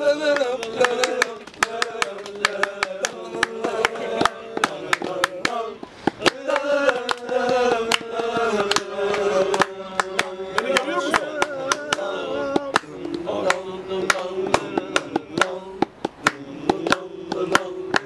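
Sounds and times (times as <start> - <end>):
sharp hand claps: 0.2 - 18.0.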